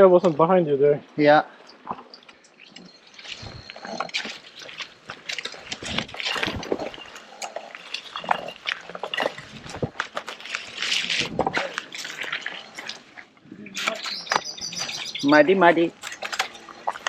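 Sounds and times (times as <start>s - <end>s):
mud squelching and splattering: 2.0s - 17.0s
tyre rolling through wet mud: 2.8s - 17.0s.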